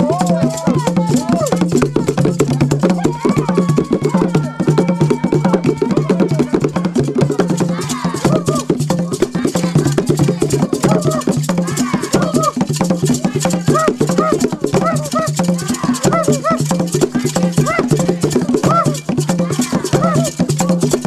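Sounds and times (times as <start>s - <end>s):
fast drumming: 0.0s - 21.0s
voices calling and singing: 0.0s - 21.0s.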